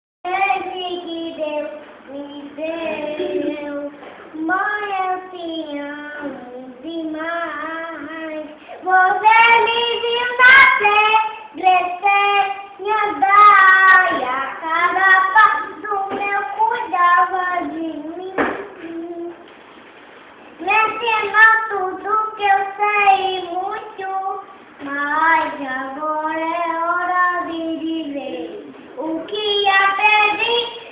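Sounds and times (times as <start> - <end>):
toddler girl singing: 0.3 - 19.5, 20.6 - 30.9.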